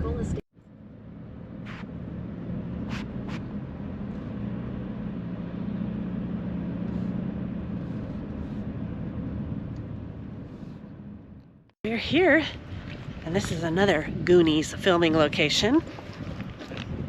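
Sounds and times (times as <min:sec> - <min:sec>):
road noise: 0:00.0 - 0:17.0
vehicle engine drone: 0:00.0 - 0:17.0.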